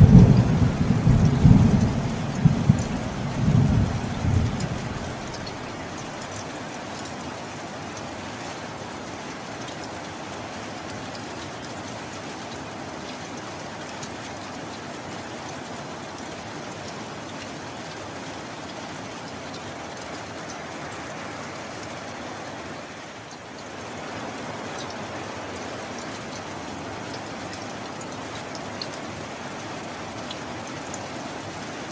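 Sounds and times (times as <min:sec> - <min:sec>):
raindrop ticks: 0:00.0 - 0:08.1, 0:09.0 - 0:22.0, 0:23.2 - 0:23.9, 0:24.7 - 0:31.9
heavy rain hiss: 0:00.0 - 0:31.9.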